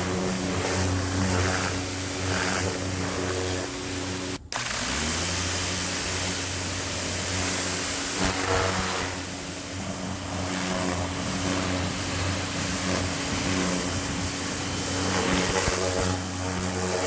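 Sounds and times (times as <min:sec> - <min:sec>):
pressure washer motor hum: 0:00.0 - 0:17.0
water jet hissing: 0:00.0 - 0:17.0.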